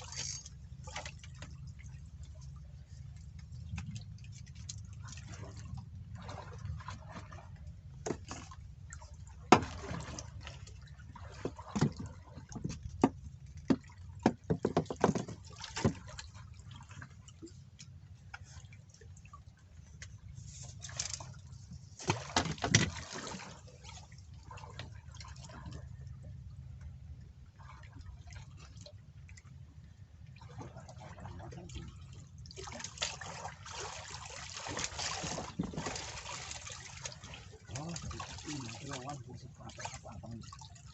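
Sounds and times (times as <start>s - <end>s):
water sloshing and splashing: 0.0s - 40.9s.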